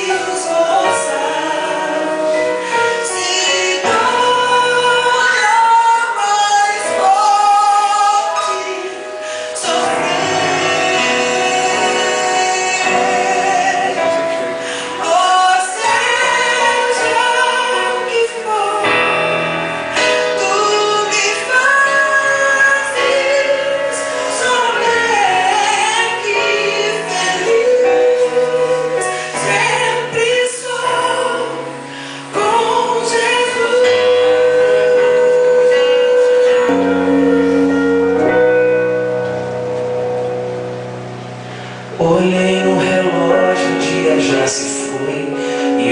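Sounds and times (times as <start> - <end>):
woman singing worship song: 0.0 - 38.5, 42.0 - 45.9
instrumental backing: 0.0 - 45.9.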